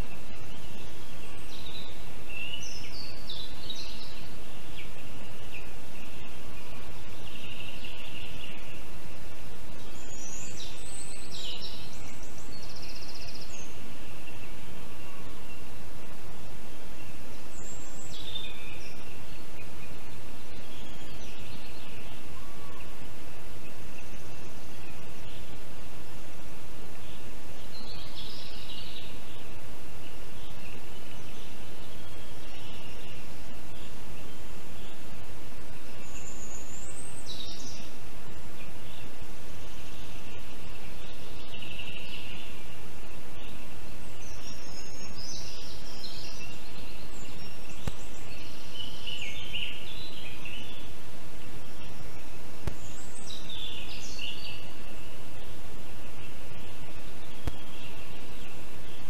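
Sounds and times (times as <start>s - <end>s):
forest ambience hiss: 0.0s - 59.0s.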